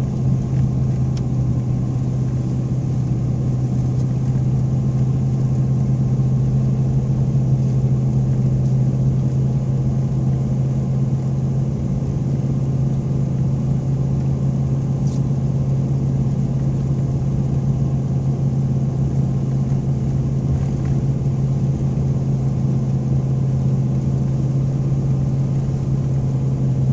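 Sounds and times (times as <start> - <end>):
road and tire noise: 0.0 - 26.9
truck engine running: 0.0 - 26.9.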